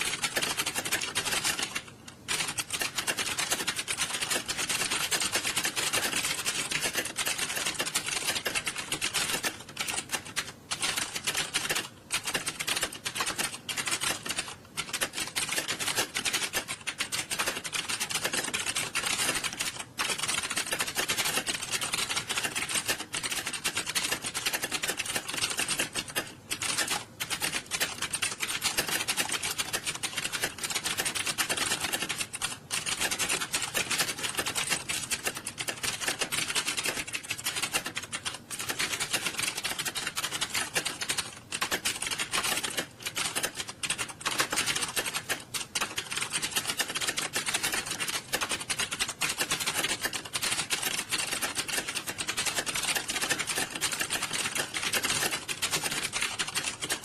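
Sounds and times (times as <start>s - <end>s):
keyboards typing clatter: 0.0s - 57.0s.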